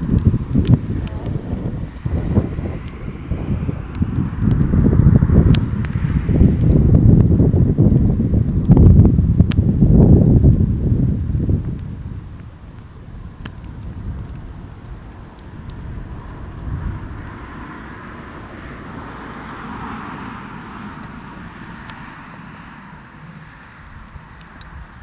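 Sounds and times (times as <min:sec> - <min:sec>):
distant vehicle passing hiss: 0:00.0 - 0:08.3, 0:12.2 - 0:25.0
wind rumbling on microphone: 0:00.0 - 0:25.0.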